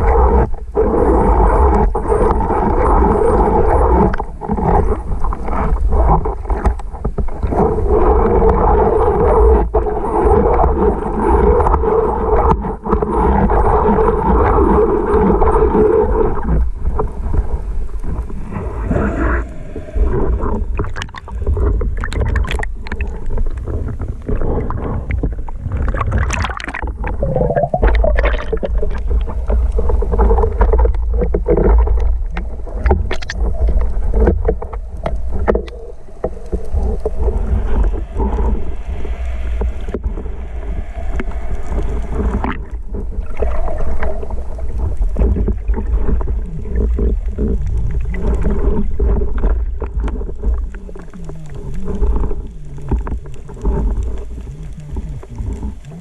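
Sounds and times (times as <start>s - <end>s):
underwater low rumble: 0.0s - 56.0s.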